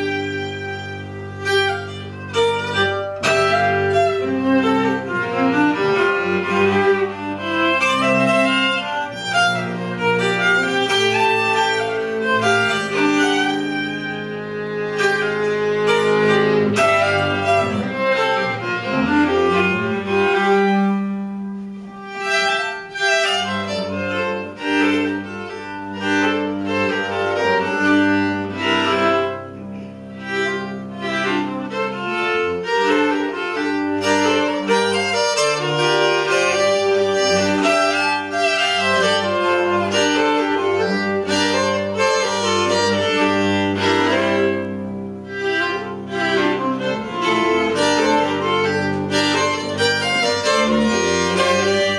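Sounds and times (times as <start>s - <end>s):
fiddle playing long notes: 0.0s - 51.9s.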